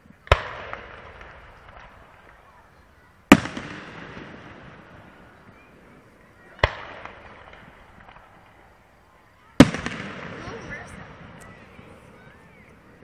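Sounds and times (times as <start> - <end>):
firework bangs with rolling echo: 0.0 - 13.0.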